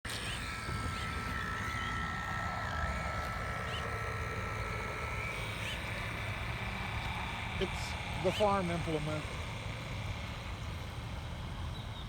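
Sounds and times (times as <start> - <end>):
model boat motor whine: 0.0 - 12.0
low rumbling noise: 0.1 - 11.9.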